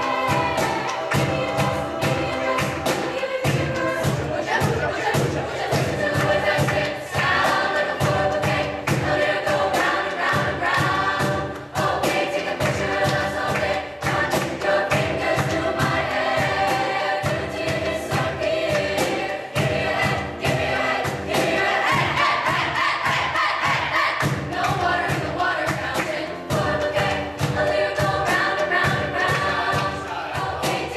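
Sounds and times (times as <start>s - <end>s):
choir singing: 0.0s - 30.9s
steady rhythmic beat: 0.0s - 30.9s.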